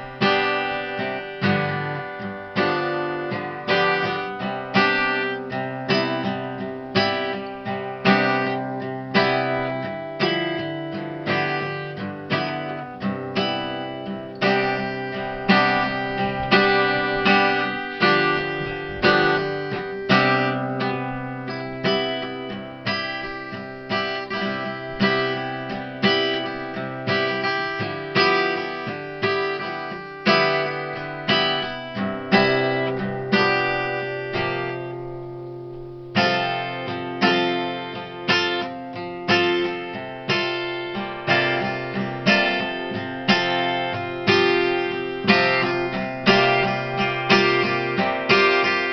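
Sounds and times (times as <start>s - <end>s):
acoustic guitar chords: 0.0s - 48.9s.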